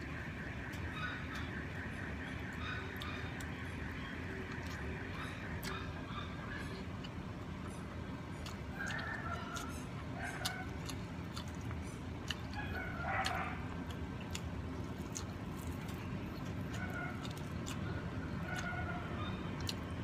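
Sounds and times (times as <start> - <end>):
faint eating clicks: 0.6 - 20.0.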